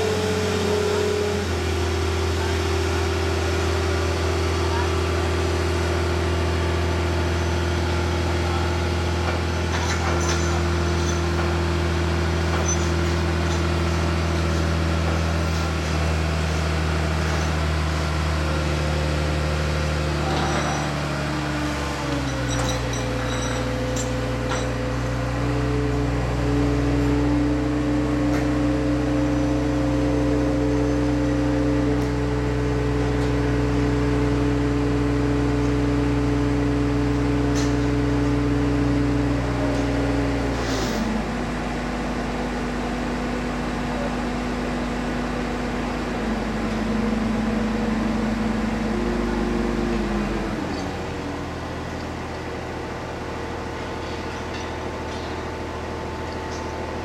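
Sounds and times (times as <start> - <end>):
crane engine and hydraulics running: 0.0 - 57.0.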